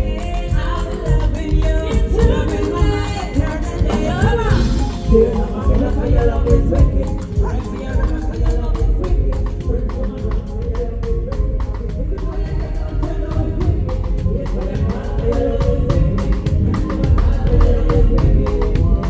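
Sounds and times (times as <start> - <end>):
drum kit beat: 0.0 - 19.0
person singing: 0.0 - 19.0.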